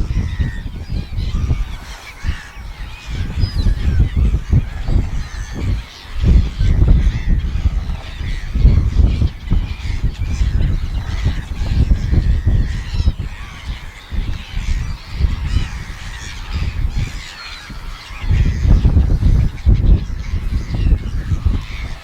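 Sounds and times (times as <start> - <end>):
seagulls calling: 0.0 - 22.0
wind on microphone: 0.0 - 22.0.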